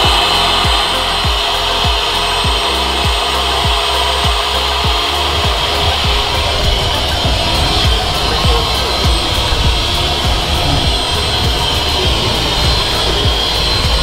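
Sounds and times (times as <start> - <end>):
electric air pump running: 0.0 - 14.0
music with thudding beat: 0.0 - 14.0.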